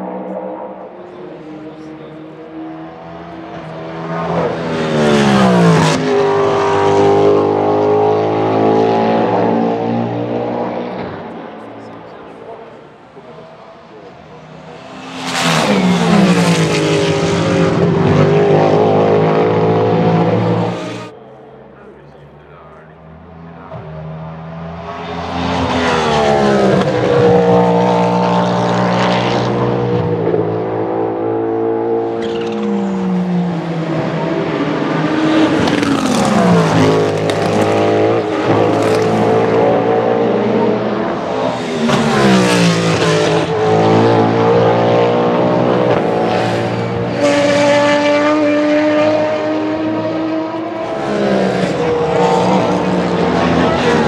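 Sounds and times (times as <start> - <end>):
race car engine passing by: 0.0 - 54.0.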